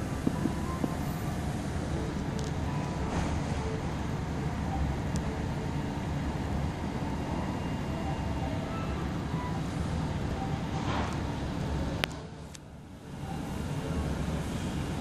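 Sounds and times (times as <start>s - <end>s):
restaurant room noise: 0.0s - 15.0s.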